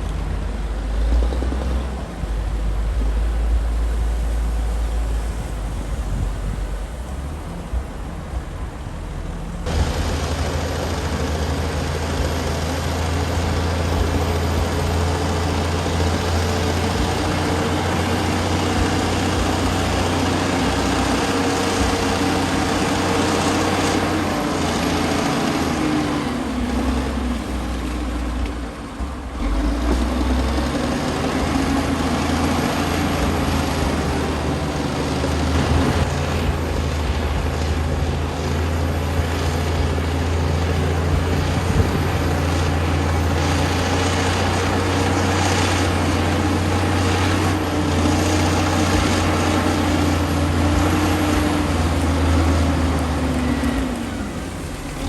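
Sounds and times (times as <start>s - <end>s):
bulldozer diesel engine drone: 0.0s - 55.0s.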